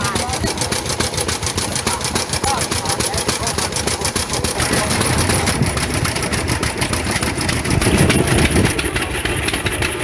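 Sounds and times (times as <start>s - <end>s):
old engine running: 0.0s - 10.0s.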